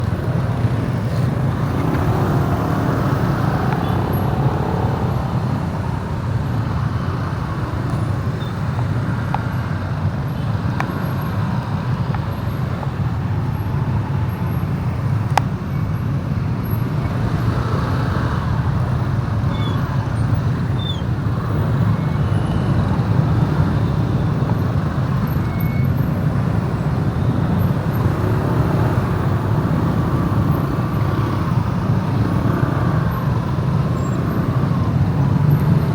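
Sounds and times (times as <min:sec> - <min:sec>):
motorbike engine and road rumble: 0:00.0 - 0:35.9
vehicles passing: 0:00.0 - 0:35.9.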